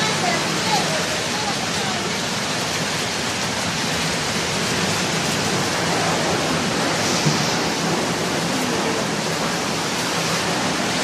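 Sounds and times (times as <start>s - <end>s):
heavy rain: 0.0s - 11.0s
running water: 0.0s - 11.0s.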